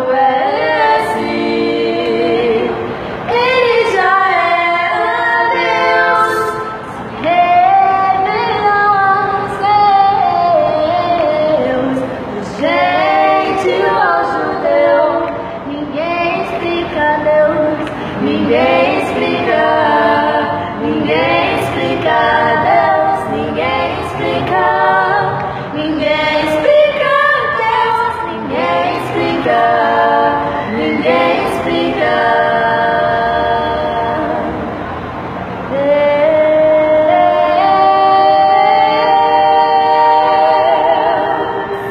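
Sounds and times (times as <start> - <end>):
women singing a cappella harmony: 0.0 - 41.9.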